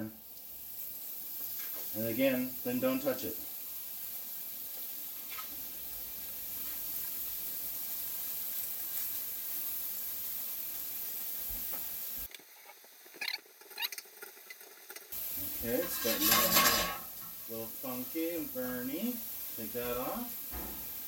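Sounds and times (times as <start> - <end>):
steak sizzling in a pan: 0.0 - 21.0.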